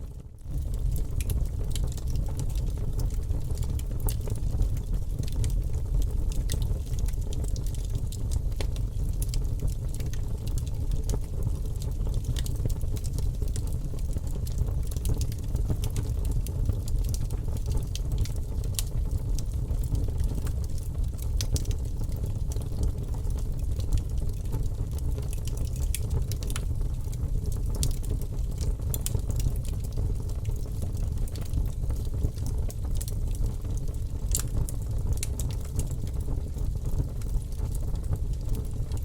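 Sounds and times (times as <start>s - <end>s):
campfire crackling and popping: 0.5s - 39.0s.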